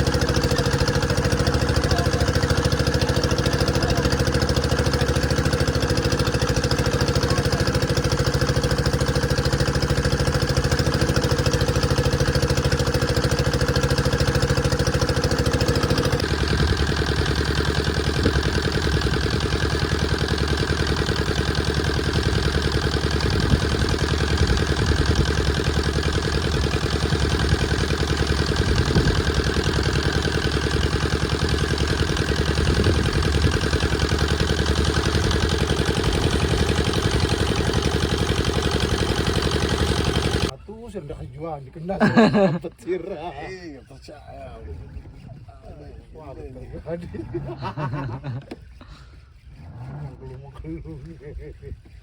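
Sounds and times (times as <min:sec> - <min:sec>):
engine idling: 0:00.0 - 0:52.0.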